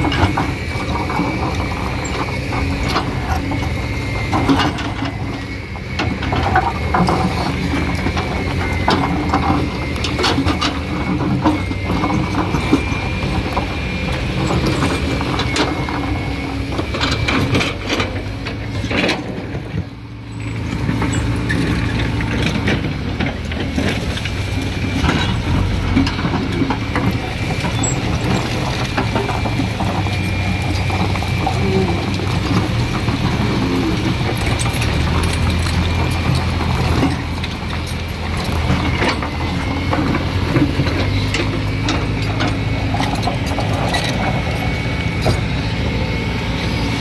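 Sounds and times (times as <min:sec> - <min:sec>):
backhoe loader engine: 0:00.0 - 0:47.0
excavator scraping through rubble: 0:00.0 - 0:47.0.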